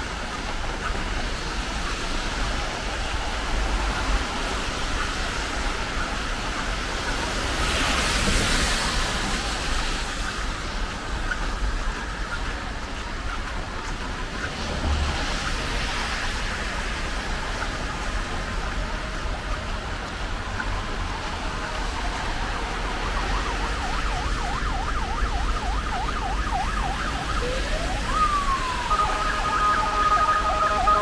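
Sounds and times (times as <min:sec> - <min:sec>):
emergency vehicle siren: 0:00.0 - 0:31.0
traffic on wet road: 0:00.0 - 0:31.0.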